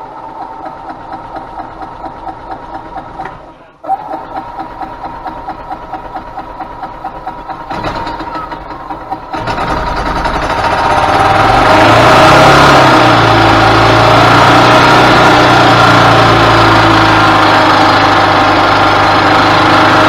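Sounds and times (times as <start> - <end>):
golf cart engine running: 0.2 - 20.0.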